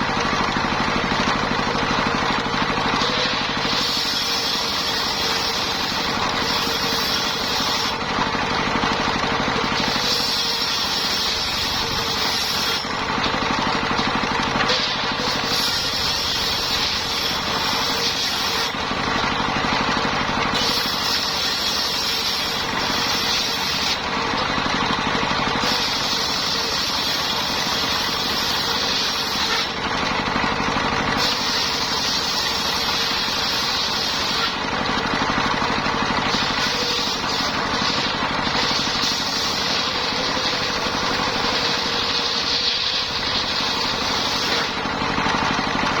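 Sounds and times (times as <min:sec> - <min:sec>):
saw whine: 0:00.0 - 0:46.0
sawmill engine running: 0:00.0 - 0:46.0.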